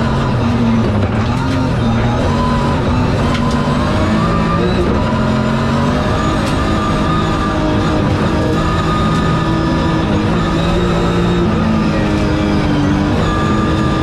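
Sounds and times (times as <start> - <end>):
rally car engine through gears: 0.0 - 14.0.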